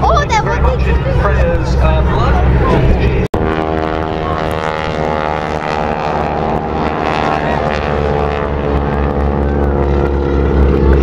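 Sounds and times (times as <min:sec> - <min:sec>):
propeller aircraft droning overhead: 0:00.0 - 0:11.0.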